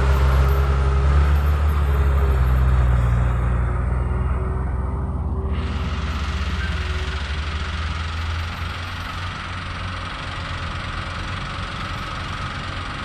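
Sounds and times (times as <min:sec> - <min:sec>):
heavy diesel engines throbbing: 0:00.0 - 0:13.0.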